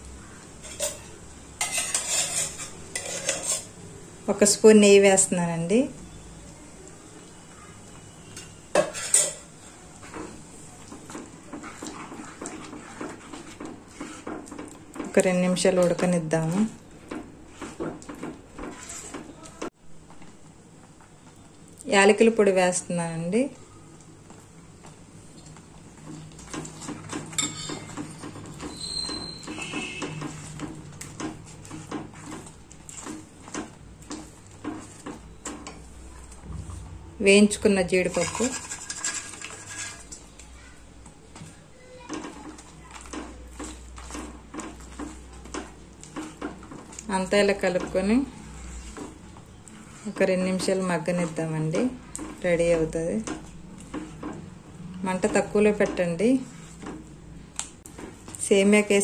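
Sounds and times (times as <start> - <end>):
spatula stirring thick syrup: 0.3 - 3.8, 7.1 - 20.2, 23.5 - 59.0.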